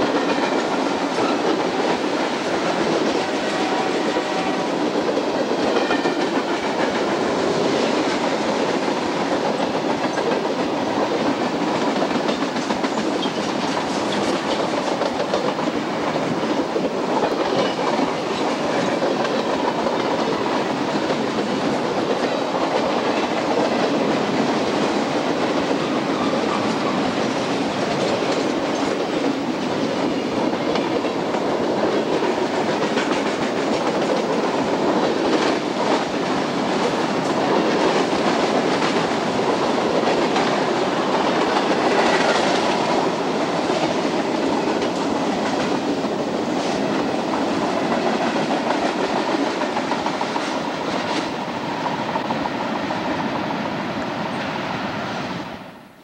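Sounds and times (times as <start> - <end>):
train wheels rumbling on rail: 0.0 - 55.7.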